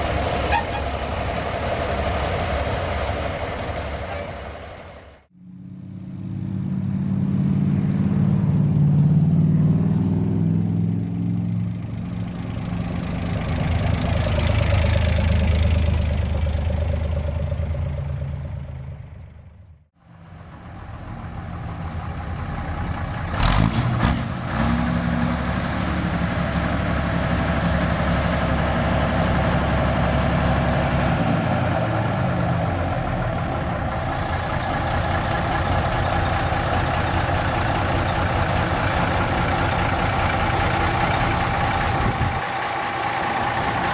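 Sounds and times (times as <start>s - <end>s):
truck engines running: 0.0s - 43.9s.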